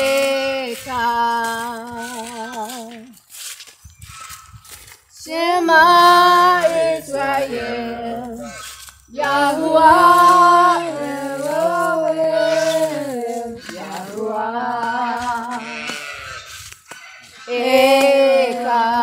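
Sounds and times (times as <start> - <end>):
unaccompanied voices singing: 0.0 - 3.2, 5.1 - 19.0.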